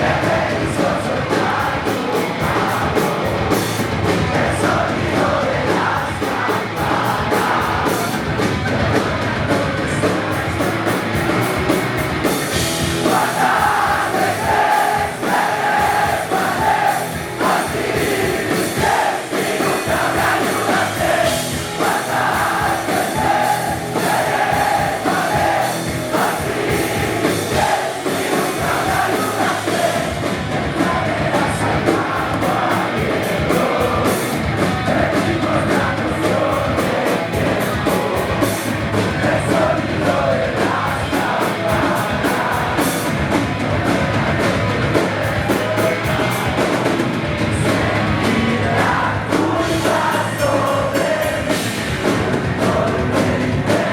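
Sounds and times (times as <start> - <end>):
live rock band with singer: 0.0 - 53.9.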